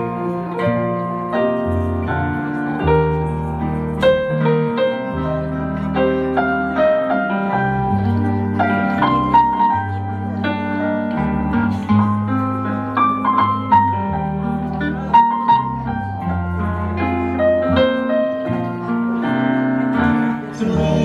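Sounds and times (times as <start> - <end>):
keyboard playing piano chords: 0.0 - 21.0.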